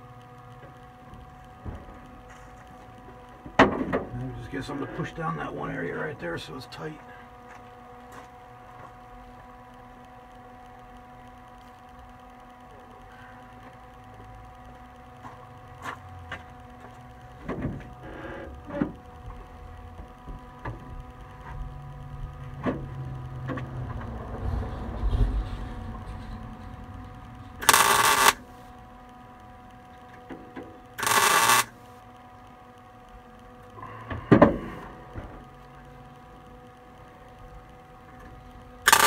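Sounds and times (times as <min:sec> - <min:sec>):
welder arc crackle: 0:00.0 - 0:39.0.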